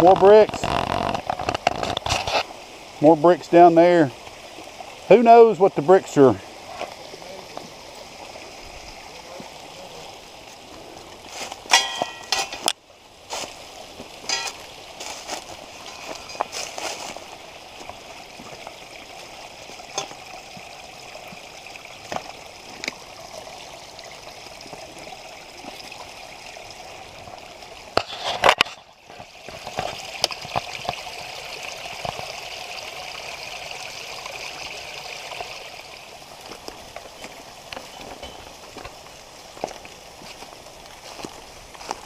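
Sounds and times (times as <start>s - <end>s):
creek water over rocks: 0.0s - 42.0s.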